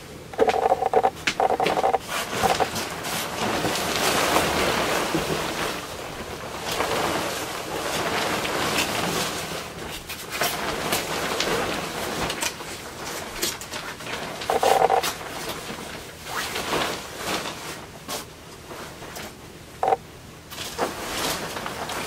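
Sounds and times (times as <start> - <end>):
comforter fabric rustling: 2.1 - 19.2, 20.6 - 22.0.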